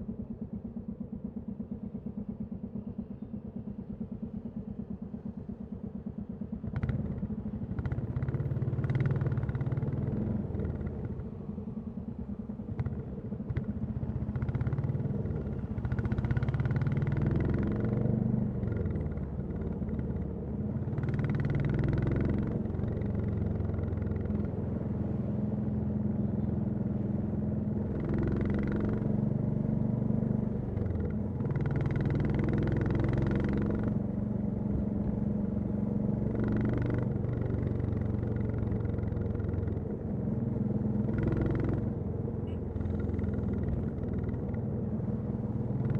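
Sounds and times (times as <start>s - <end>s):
motorcycle engine and exhaust: 0.0s - 45.9s.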